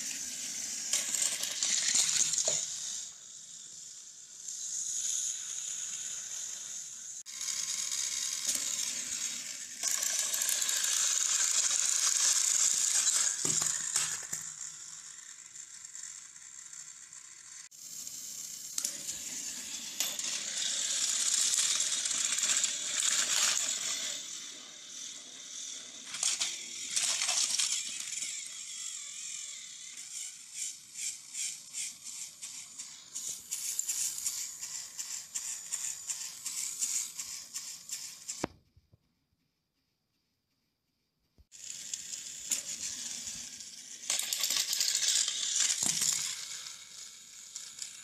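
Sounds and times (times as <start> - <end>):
toy train motors whirring: 0.0 - 38.6, 41.5 - 48.0.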